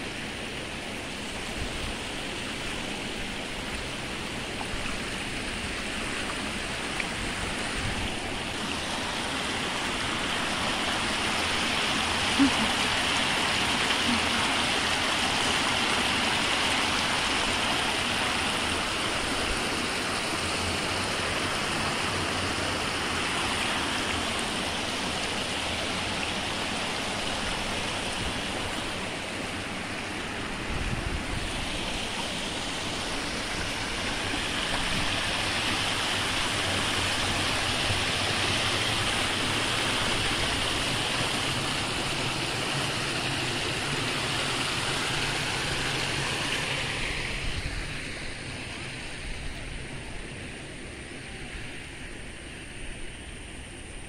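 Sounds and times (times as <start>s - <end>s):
water rushing over weir: 0.0s - 54.0s.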